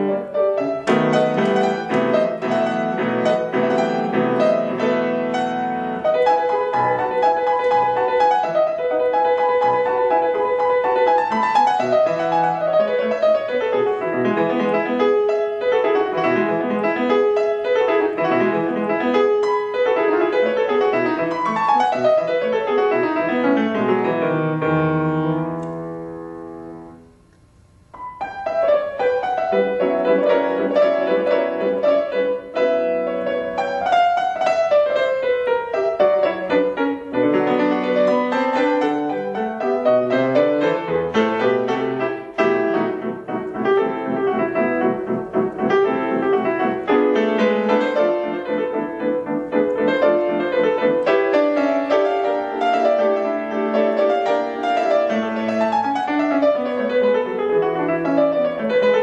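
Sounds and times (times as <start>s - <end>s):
grand piano playing: 0.0s - 59.0s.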